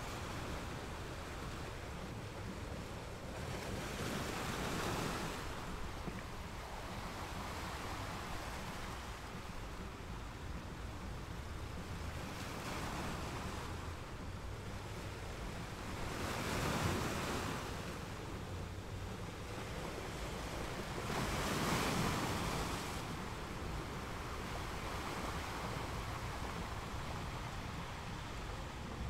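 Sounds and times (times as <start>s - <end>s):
ocean surf breaking: 0.0s - 29.0s
wind rumble on microphone: 0.0s - 29.0s.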